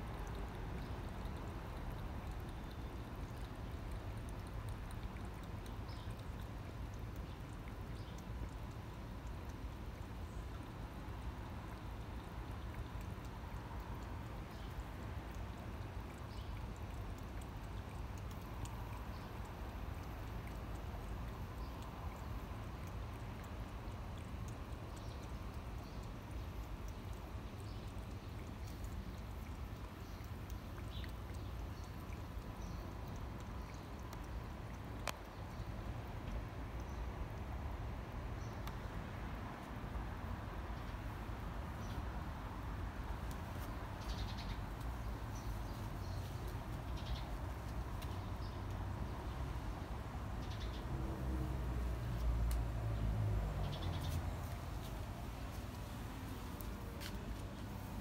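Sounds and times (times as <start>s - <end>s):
cat lapping and eating: 0.0s - 38.3s, 38.9s - 58.0s.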